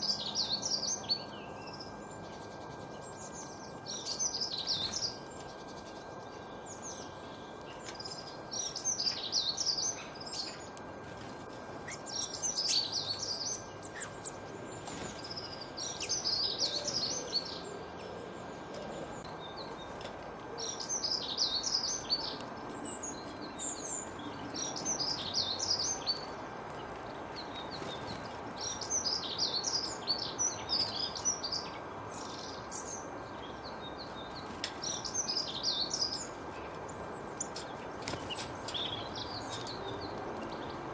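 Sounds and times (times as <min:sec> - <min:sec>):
outdoor ambient hiss: 0:00.0 - 0:40.9.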